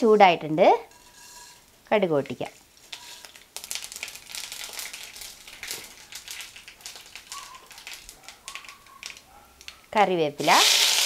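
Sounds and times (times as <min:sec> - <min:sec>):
seeds popping in hot oil: 0:00.8 - 0:11.0.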